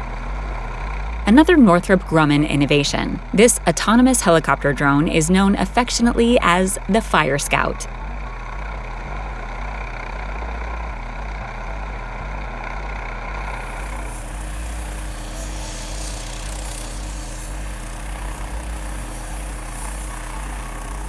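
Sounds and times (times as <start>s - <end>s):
turbine engine running: 0.0s - 21.0s
helicopter rotor blades beating: 1.1s - 21.0s.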